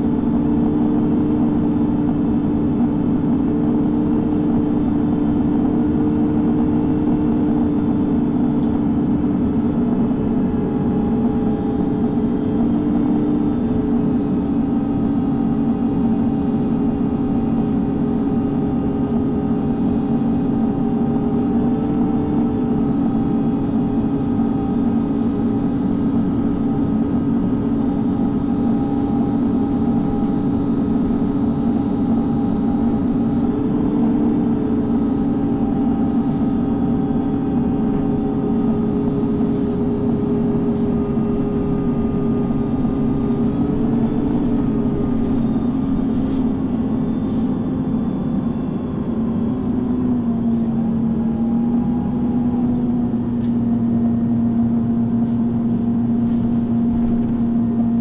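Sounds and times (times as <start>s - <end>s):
bus diesel engine humming: 0.0s - 58.0s.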